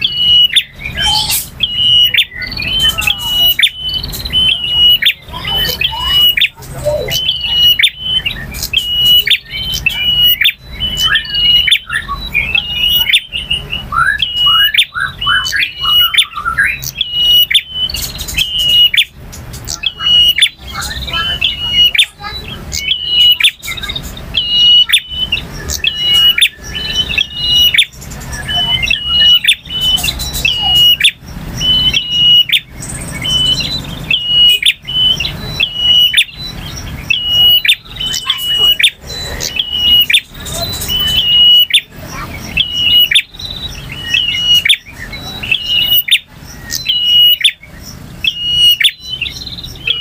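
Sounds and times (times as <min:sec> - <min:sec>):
bird singing high sharp notes: 0:00.0 - 0:50.0.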